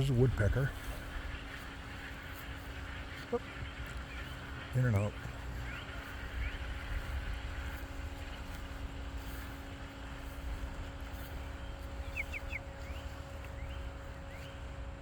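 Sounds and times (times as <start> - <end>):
bird chirping: 0.0 - 15.0
steady mechanical hum: 0.0 - 15.0.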